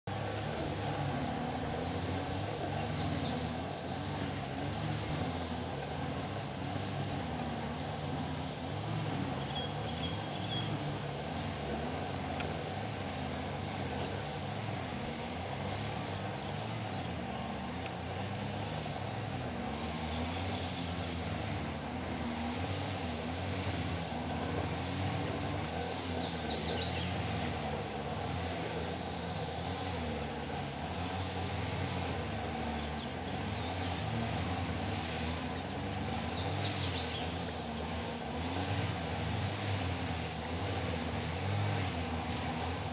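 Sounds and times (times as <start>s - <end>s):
line trimmer engine buzzing: 0.1s - 42.9s.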